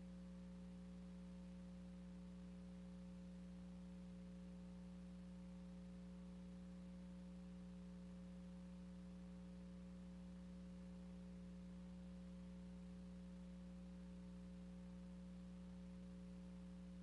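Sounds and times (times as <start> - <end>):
faint electrical hum and hiss: 0.0 - 17.0.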